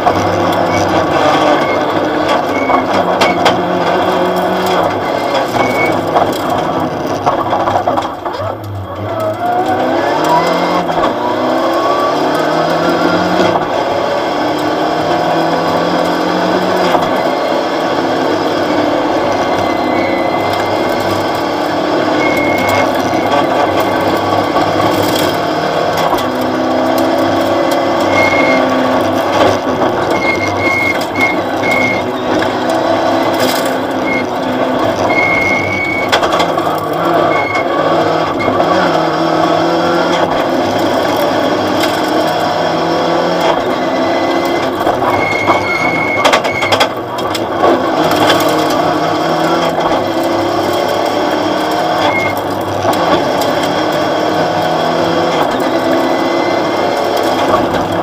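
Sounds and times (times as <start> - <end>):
car clatter and rattling: 0.0 - 58.0
rally car engine revving hard: 0.0 - 58.0.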